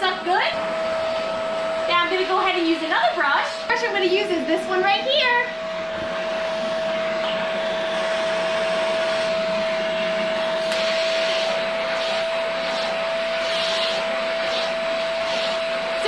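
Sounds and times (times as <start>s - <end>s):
pet grooming vacuum running: 0.0s - 16.0s.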